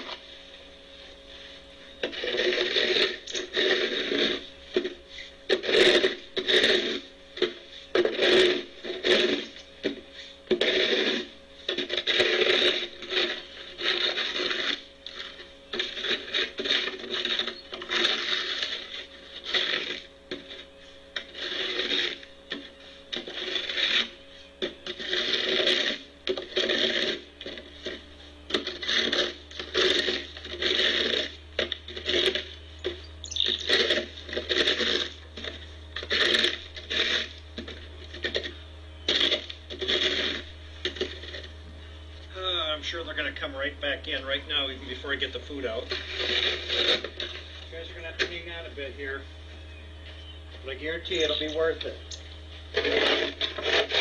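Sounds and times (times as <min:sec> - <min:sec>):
snow shovel scraping snow: 0:00.0 - 0:41.5, 0:44.4 - 0:49.1, 0:52.7 - 0:54.0.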